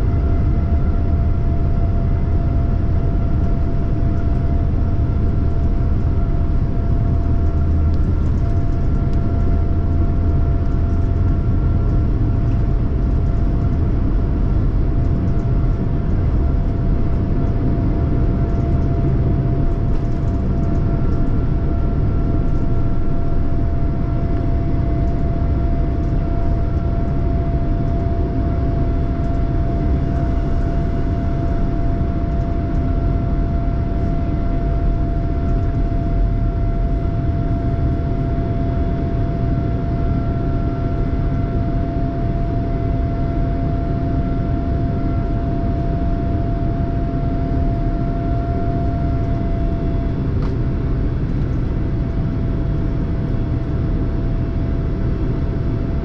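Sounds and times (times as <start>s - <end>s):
aircraft cabin rumble: 0.0s - 56.0s
jet engine whine: 0.0s - 56.0s.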